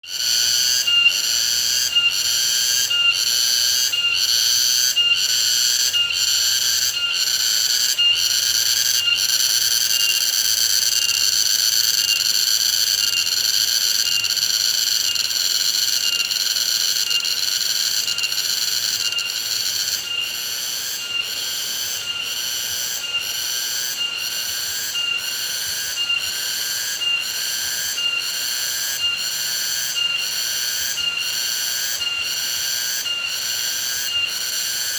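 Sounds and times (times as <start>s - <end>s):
insect chorus pulsing: 0.1s - 34.9s.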